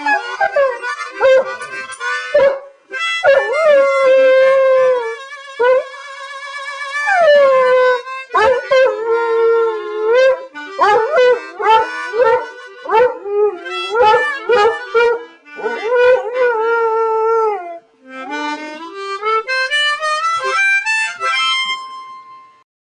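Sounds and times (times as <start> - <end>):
harmonica playing bent notes: 0.0 - 22.6.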